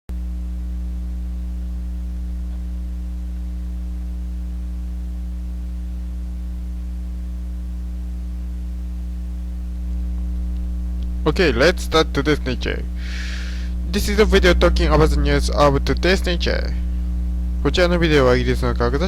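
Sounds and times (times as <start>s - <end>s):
mains hum: 0.1s - 19.0s.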